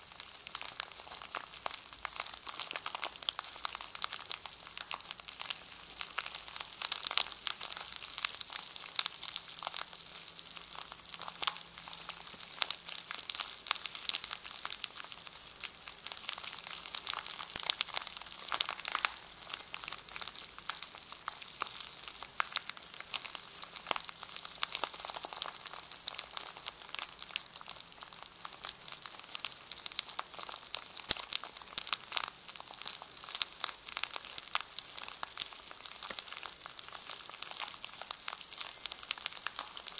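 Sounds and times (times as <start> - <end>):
crinkly plastic packaging crackling: 0.0 - 39.9.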